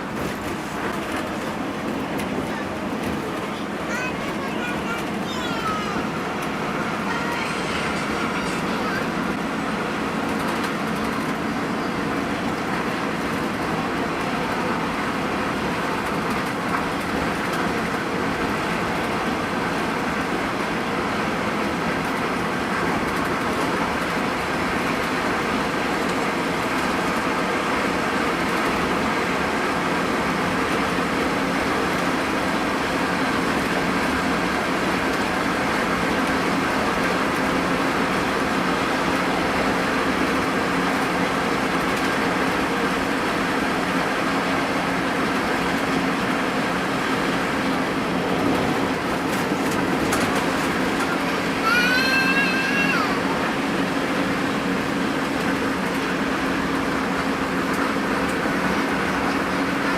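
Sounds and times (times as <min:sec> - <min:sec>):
bus diesel engine running: 0:00.0 - 0:59.9
road noise: 0:00.0 - 0:59.9.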